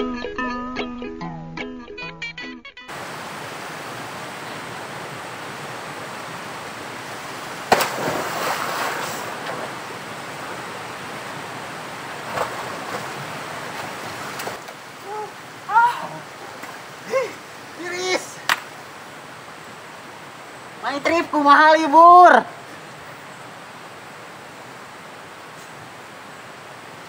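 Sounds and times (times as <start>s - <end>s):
waterfall roar: 2.9s - 27.0s.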